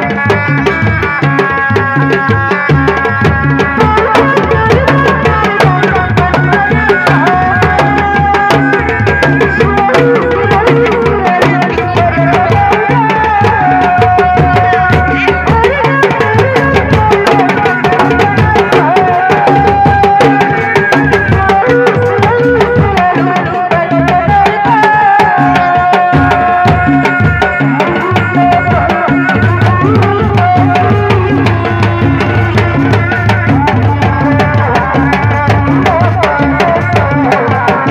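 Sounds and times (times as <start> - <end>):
drums in fast rhythm: 0.0 - 37.9.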